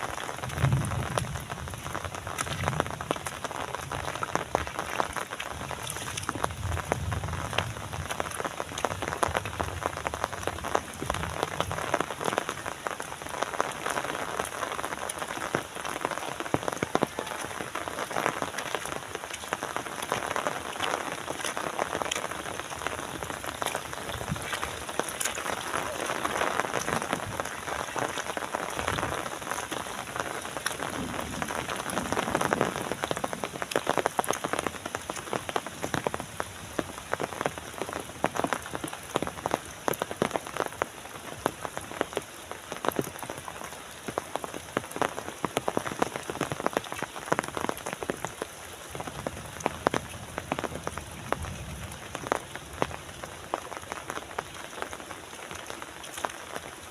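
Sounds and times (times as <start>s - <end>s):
raindrops pattering: 0.0s - 56.9s
steady rain hiss: 0.0s - 56.9s.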